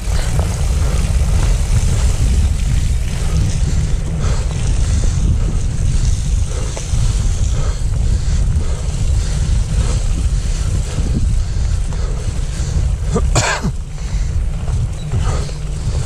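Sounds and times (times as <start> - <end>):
bike tyres rolling on dirt: 0.0 - 16.0
wind buffeting microphone: 0.0 - 16.0.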